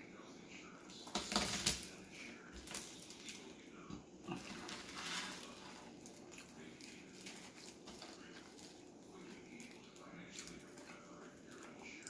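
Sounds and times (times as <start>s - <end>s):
sandwich clicks and rustles: 0.9s - 12.0s.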